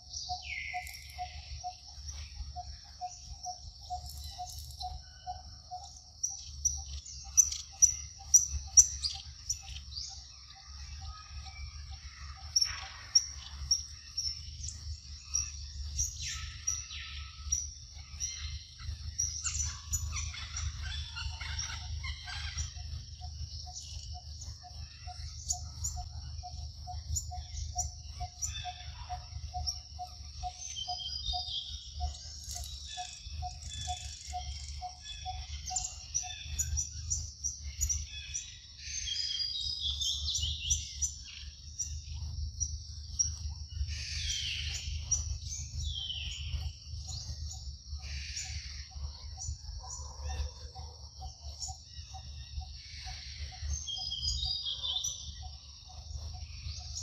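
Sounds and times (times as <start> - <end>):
birds chirping and calling: 0.0 - 57.0
high insect drone: 0.0 - 57.0.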